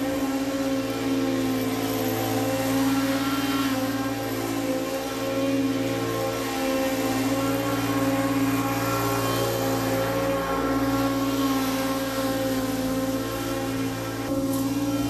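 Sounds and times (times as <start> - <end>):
mower engine running: 0.0 - 15.0.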